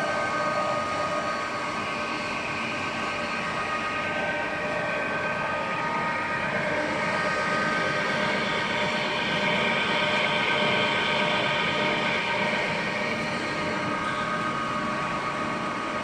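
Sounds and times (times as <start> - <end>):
lathe mechanical whine: 0.0 - 16.0.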